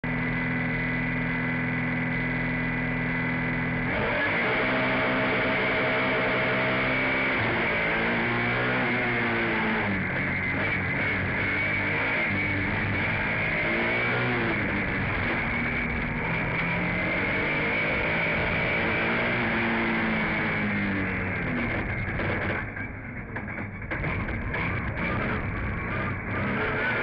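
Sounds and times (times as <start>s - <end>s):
race car engine revving: 0.3s - 27.0s.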